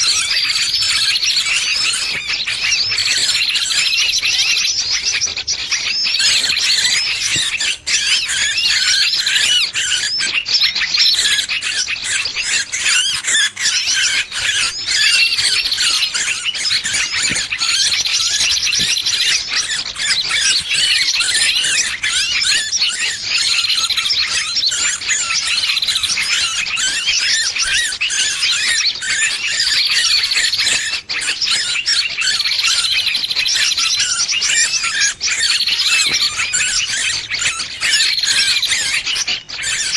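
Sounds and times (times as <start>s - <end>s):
small birds squealing in distress: 0.0s - 39.9s.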